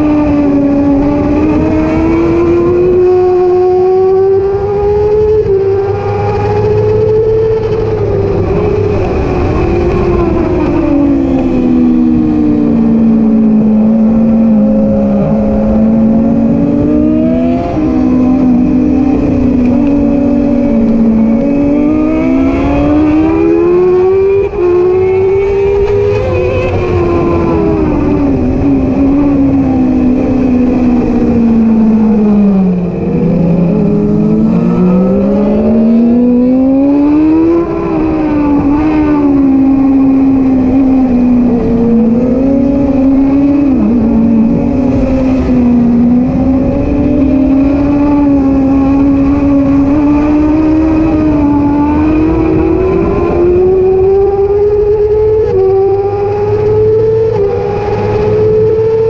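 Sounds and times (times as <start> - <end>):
motorcycle engine revving hard: 0.0 - 59.0
rushing wind noise: 0.0 - 59.0.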